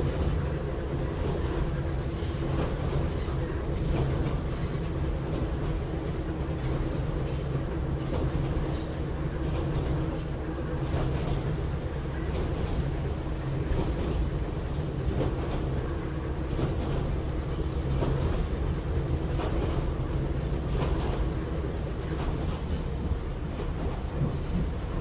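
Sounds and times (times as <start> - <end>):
railcar rumble and hum: 0.0 - 25.0.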